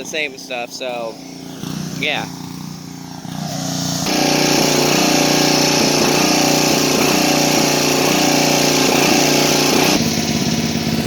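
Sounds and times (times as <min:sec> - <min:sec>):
small engine running fast: 0:00.0 - 0:11.0.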